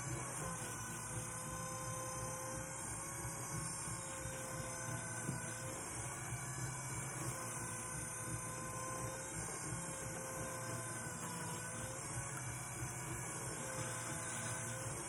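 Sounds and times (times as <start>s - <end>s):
pottery wheel motor humming: 0.0s - 15.0s
wet clay centred by hand: 0.0s - 15.0s.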